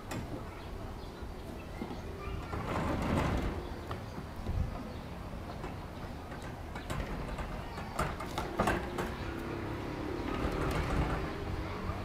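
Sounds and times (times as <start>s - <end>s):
sliding door rumbling on track: 1.5s - 12.0s.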